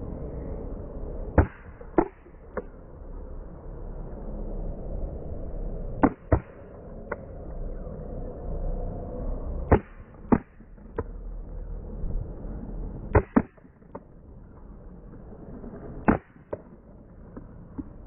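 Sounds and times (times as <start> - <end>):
outdoor background hum: 0.0 - 18.0.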